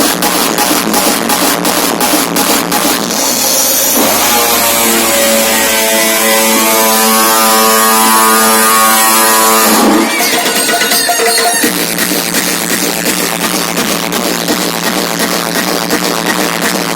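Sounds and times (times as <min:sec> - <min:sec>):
loud electronic dance music: 0:00.0 - 0:16.9.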